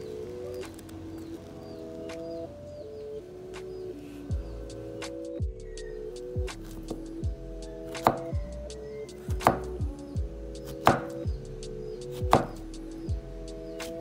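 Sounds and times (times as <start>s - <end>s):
background music with beat: 0.0s - 14.0s.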